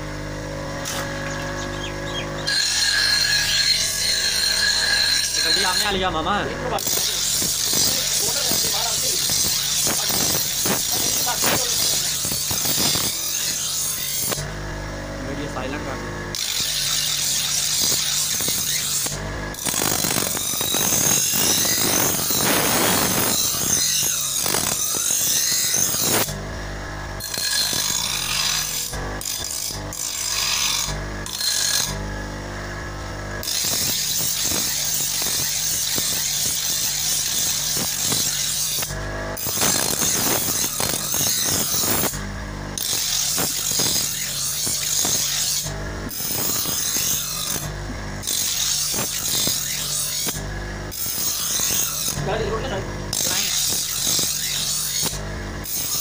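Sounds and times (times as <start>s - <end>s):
blade grinding on grinding wheel: 0.0s - 56.0s
grinding wheel humming: 0.0s - 56.0s.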